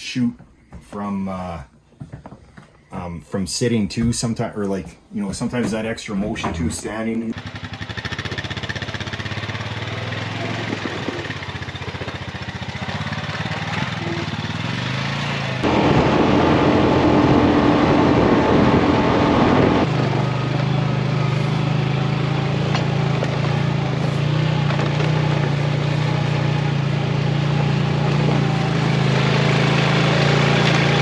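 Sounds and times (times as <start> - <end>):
vehicle engine running: 5.5 - 31.0.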